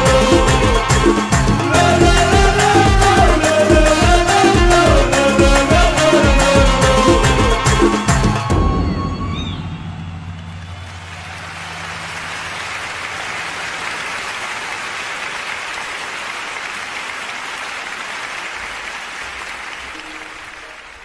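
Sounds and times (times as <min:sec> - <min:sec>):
large crowd applauding: 0:00.0 - 0:21.0.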